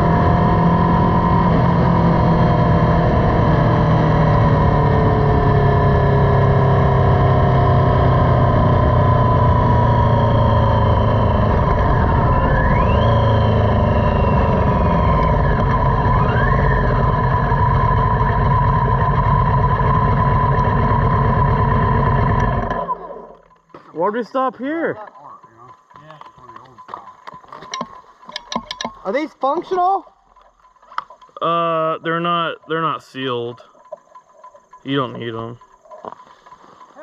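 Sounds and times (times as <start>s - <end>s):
motorcycle engine running: 0.0s - 37.0s
rising whistle-like tones: 1.2s - 24.5s, 25.2s - 37.0s.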